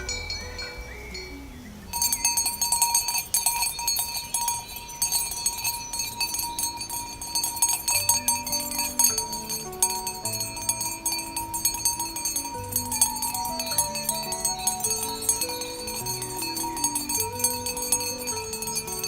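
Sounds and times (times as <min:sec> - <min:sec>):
cattle bells jangling: 0:00.0 - 0:19.0.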